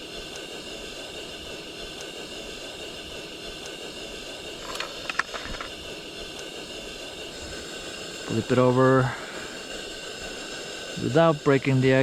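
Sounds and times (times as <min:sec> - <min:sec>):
stove burner hissing: 0:00.0 - 0:12.0.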